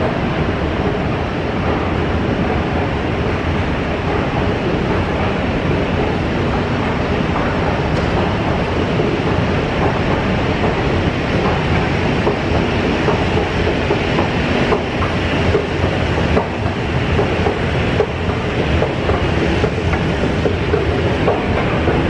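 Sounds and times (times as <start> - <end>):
escalator mechanical rumble: 0.0 - 22.0
escalator steps clicking: 0.0 - 22.0.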